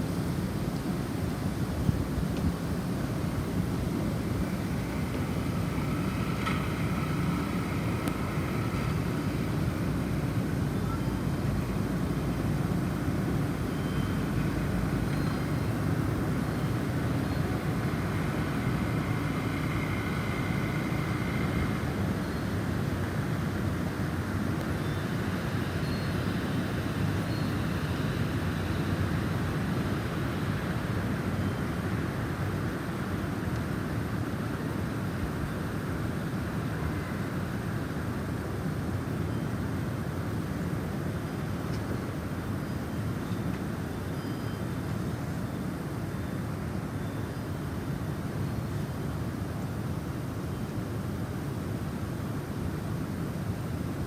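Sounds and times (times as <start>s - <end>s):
wind blowing: 0.0s - 43.8s.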